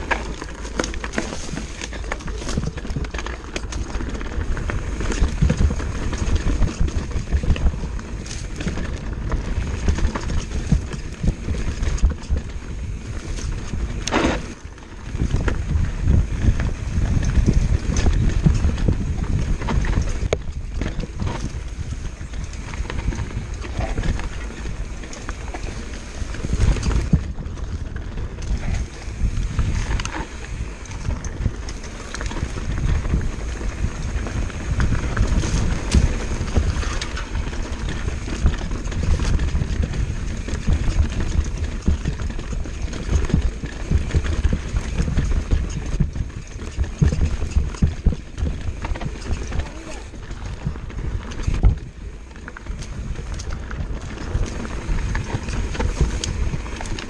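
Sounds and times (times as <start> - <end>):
bike rattling and clicking: 0.0 - 57.0
bike tyres rumbling over rock: 0.0 - 57.0
wind buffeting microphone: 0.0 - 57.0.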